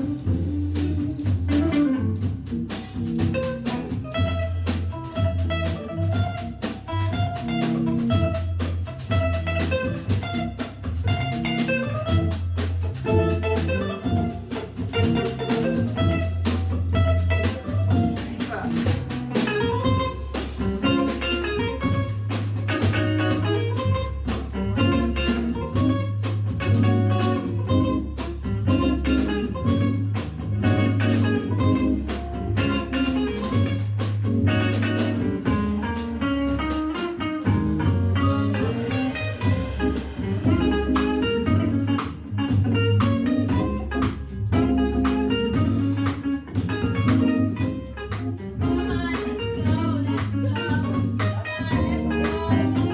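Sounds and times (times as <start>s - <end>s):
drum kit keeping time: 0.0s - 52.9s
electric guitar: 0.0s - 52.9s
organ with bass line: 0.0s - 52.9s.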